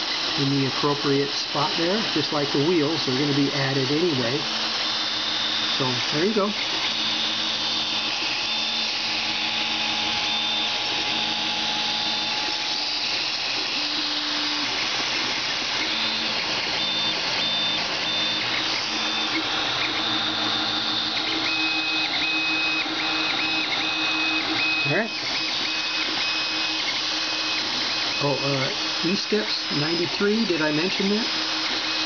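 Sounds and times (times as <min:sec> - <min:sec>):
cooling fans whirring: 0:00.0 - 0:32.0
stepper motors whining: 0:00.0 - 0:32.0.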